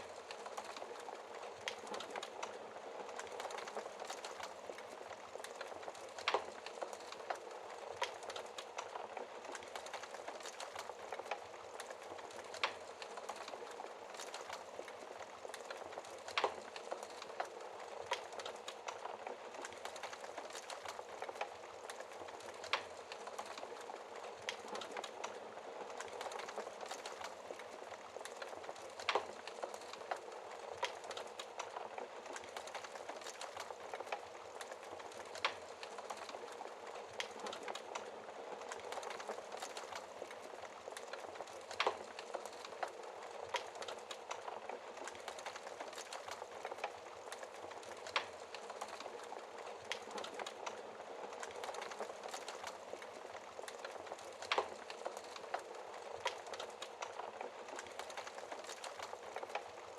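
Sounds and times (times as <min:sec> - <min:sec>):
fire popping: 0:00.0 - 0:59.9
wood fire hissing and crackling: 0:00.0 - 0:59.9.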